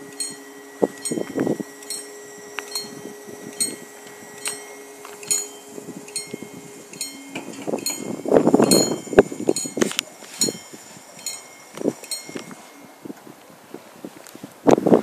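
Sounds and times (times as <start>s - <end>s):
electronic crossing bell ringing: 0.0s - 13.4s
steady low hum: 0.0s - 15.0s
wind buffeting microphone: 0.0s - 15.0s.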